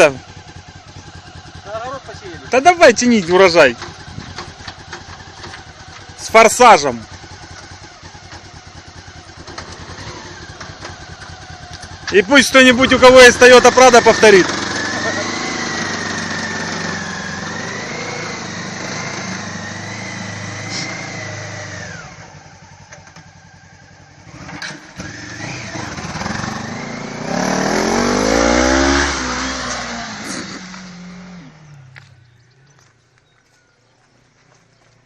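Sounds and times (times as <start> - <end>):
vehicle engine working hard: 0.0 - 33.0.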